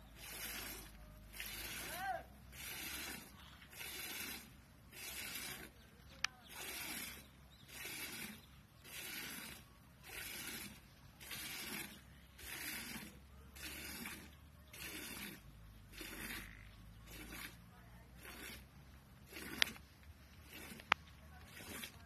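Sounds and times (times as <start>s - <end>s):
milk squirting into metal bucket: 0.0s - 22.0s.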